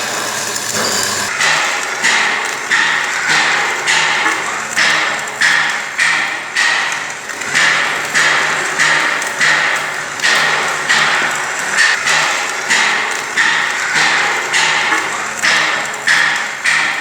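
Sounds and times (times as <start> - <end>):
hammer striking steel: 0.0 - 17.0.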